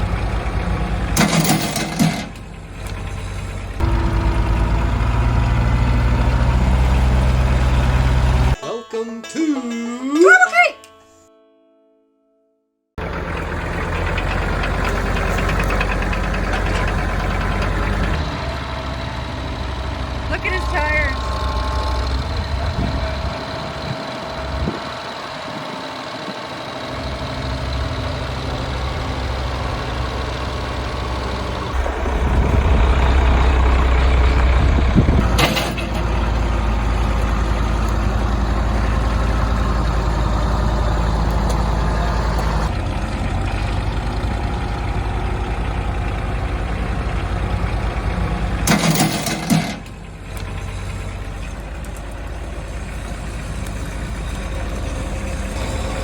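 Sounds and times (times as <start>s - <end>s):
tractor engine under load: 0.0s - 8.6s, 13.0s - 56.0s.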